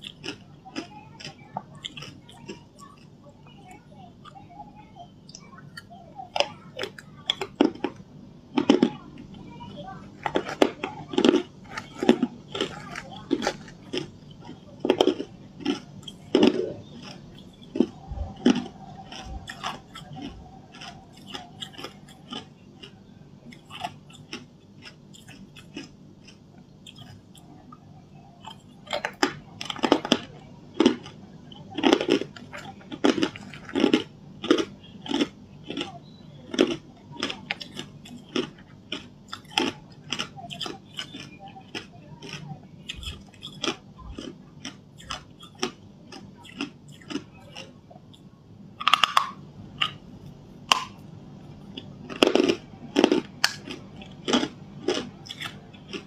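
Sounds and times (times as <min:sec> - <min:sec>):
ice crunching between teeth: 0:00.0 - 0:04.4, 0:10.2 - 0:27.4, 0:28.4 - 0:48.2, 0:48.8 - 0:50.0, 0:51.7 - 0:56.0.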